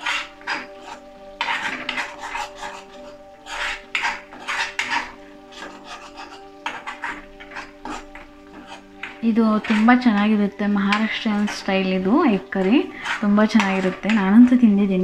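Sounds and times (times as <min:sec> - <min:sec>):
steel spoon stirring in metal pan: 0:00.0 - 0:14.6
instrumental background music: 0:00.0 - 0:15.0
paste frying: 0:00.0 - 0:15.0.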